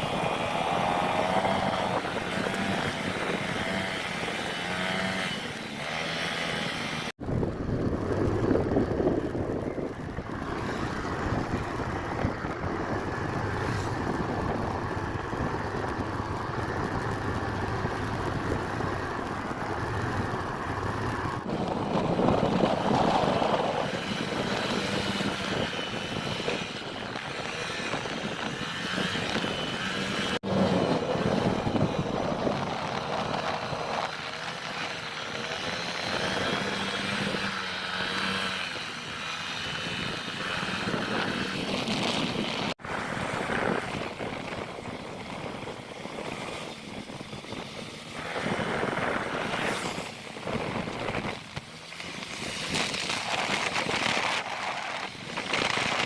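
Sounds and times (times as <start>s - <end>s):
wind rush on microphone: 0.0s - 6.0s, 6.9s - 56.0s
scooter engine running: 0.0s - 56.0s.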